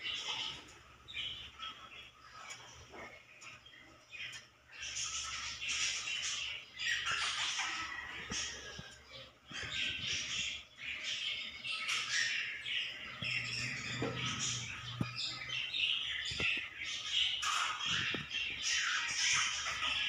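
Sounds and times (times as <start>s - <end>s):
low steady hum: 0.0s - 20.0s
small birds chirping and squawking: 0.0s - 20.0s.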